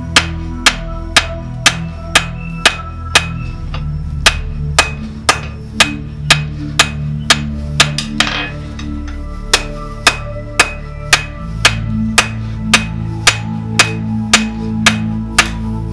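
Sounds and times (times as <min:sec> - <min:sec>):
hammer striking steel on anvil: 0:00.0 - 0:15.7
background music: 0:00.0 - 0:15.9.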